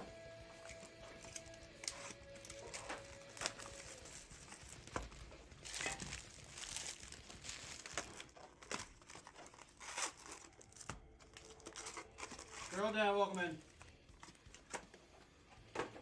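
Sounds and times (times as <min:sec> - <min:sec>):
plastic wrapping crinkling and tearing: 0:00.5 - 0:15.0.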